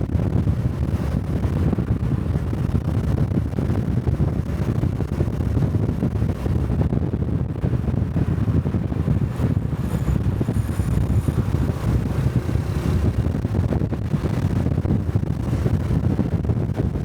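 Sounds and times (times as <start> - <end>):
motorcycle engine running: 0.0 - 17.0
wind rumbling on microphone: 0.0 - 17.0.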